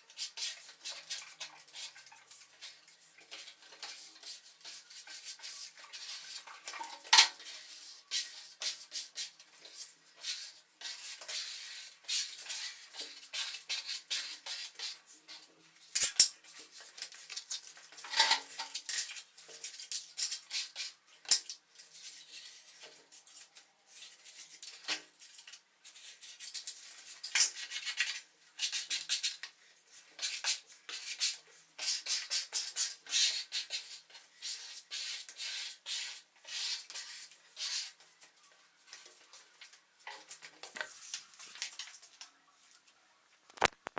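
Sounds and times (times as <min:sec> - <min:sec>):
quick clicks taps and scrapes: 0:00.1 - 0:42.3, 0:43.5 - 0:43.9.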